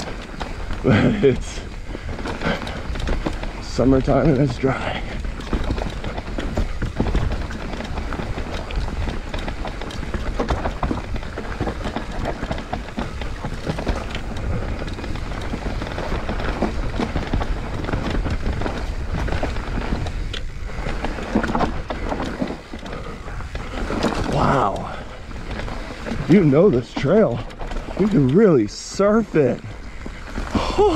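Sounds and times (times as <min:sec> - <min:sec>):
bike rattling over bumps: 0:00.0 - 0:30.9
tyres crackling over loose soil: 0:00.0 - 0:30.9
wind rumble on microphone: 0:00.0 - 0:30.9.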